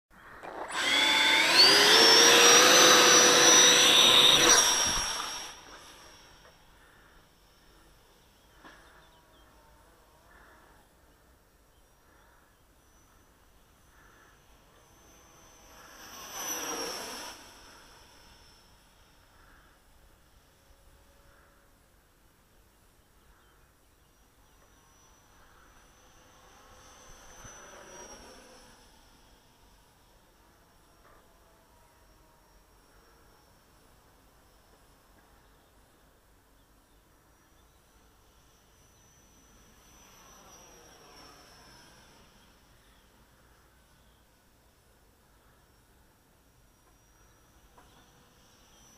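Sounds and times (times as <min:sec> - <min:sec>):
electric ducted fan whining: 0:00.2 - 0:48.9.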